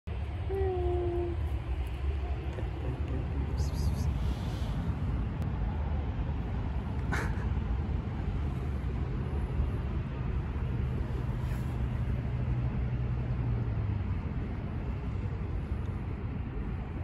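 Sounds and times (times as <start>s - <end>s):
low engine hum: 0.1s - 17.0s
low outdoor rumble: 0.1s - 17.0s.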